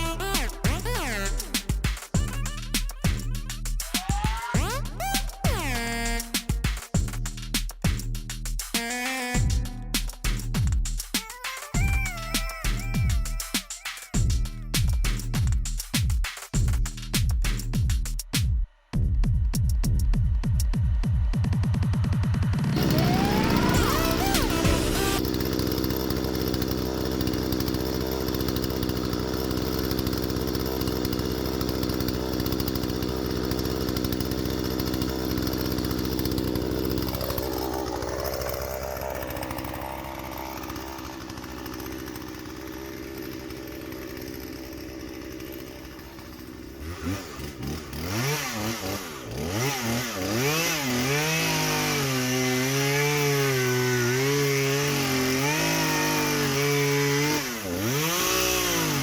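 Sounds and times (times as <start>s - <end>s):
chainsaw revving: 0.0s - 17.0s, 22.0s - 59.0s.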